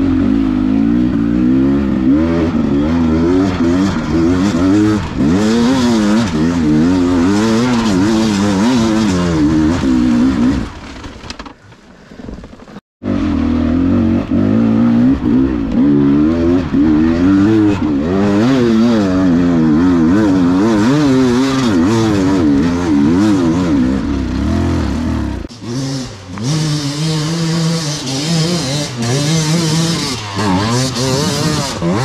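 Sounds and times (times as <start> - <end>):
two-stroke motorcycle engine revving: 0.0 - 11.2, 13.0 - 32.0.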